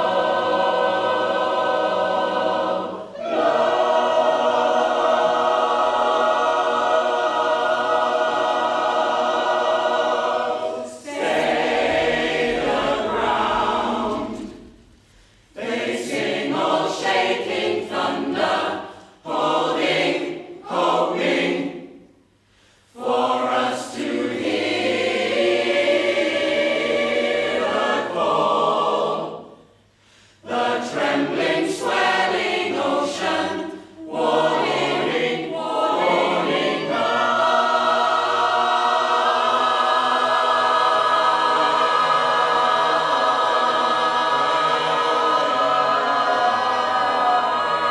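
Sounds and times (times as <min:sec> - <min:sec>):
choir singing: 0:00.0 - 0:22.2, 0:22.9 - 0:47.9.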